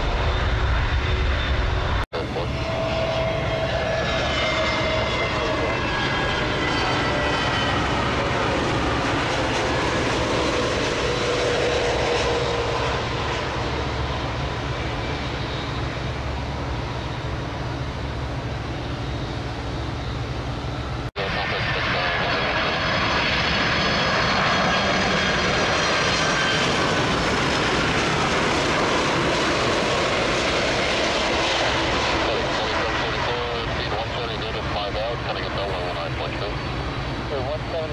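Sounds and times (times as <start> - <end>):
airliner roll-out noise: 0.0 - 37.9
jet airliner landing: 0.0 - 37.9
whining engine tones: 0.0 - 37.9.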